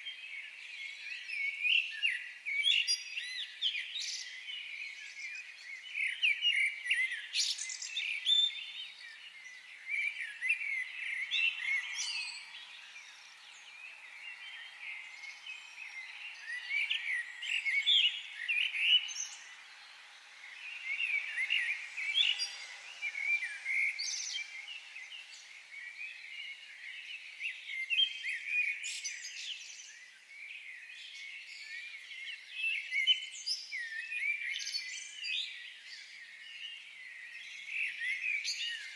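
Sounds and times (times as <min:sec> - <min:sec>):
faint background hiss: 0:00.0 - 0:38.9
songbirds chirping: 0:00.0 - 0:38.9.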